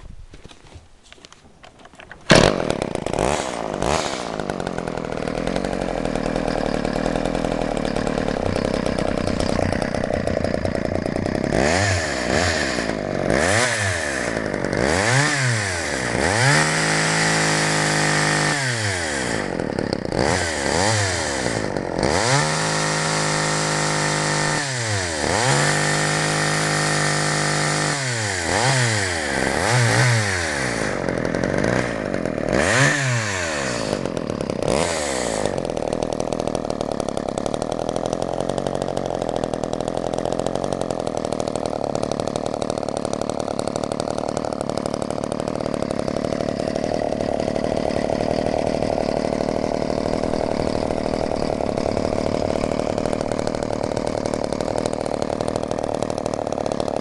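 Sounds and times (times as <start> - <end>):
chainsaw engine idling and revving: 1.8 - 57.0.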